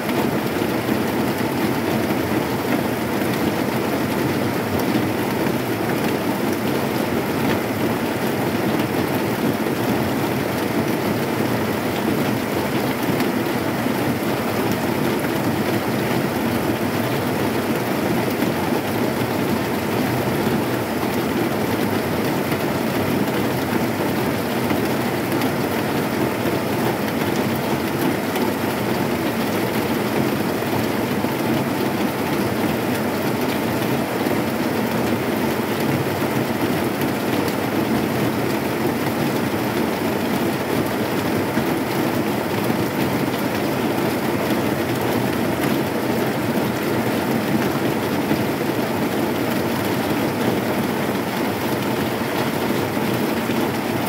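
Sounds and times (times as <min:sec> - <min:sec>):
heavy rain on a metal roof: 0:00.0 - 0:54.0.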